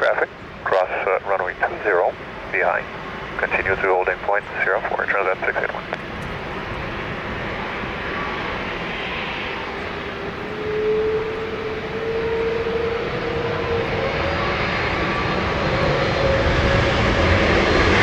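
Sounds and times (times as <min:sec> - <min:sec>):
jet airliner rumble: 0:00.0 - 0:18.0
jet engine whine: 0:00.0 - 0:18.0.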